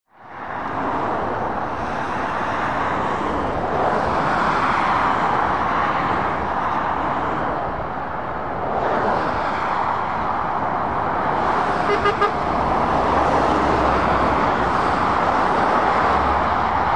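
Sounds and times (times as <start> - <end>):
motorway traffic rushing past: 0.1 - 16.9.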